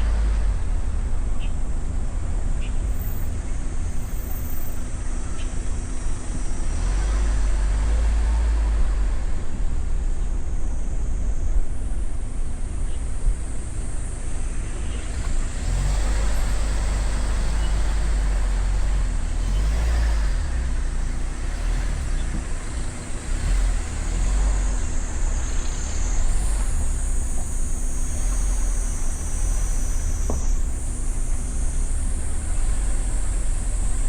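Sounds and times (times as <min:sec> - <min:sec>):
motorcycle engine hum: 0:00.0 - 0:34.0.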